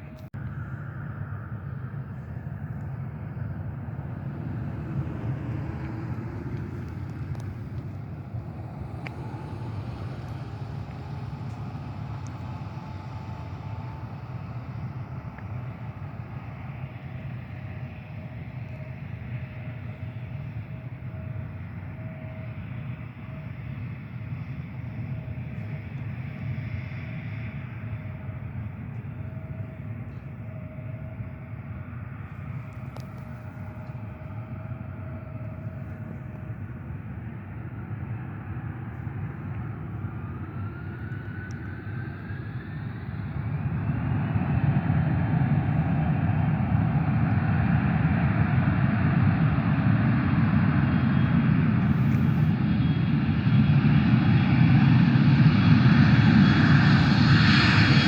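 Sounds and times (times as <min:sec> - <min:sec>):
jet engines rumbling and whining: 0:00.0 - 0:58.0.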